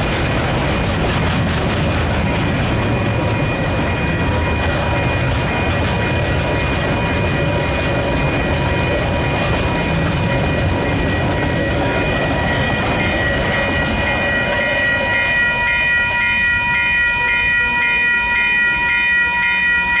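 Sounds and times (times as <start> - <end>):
train wagons rumbling and clacking: 0.0 - 20.0.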